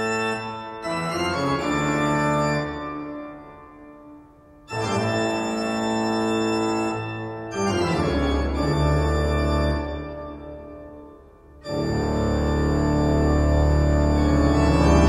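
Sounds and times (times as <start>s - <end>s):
organ playing slow chords: 0.0s - 15.0s.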